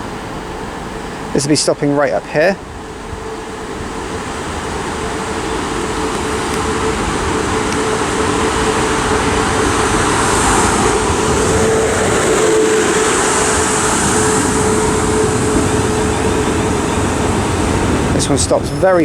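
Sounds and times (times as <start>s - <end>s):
electric train whine: 0.0s - 19.0s
train wheels rumbling: 0.0s - 19.0s.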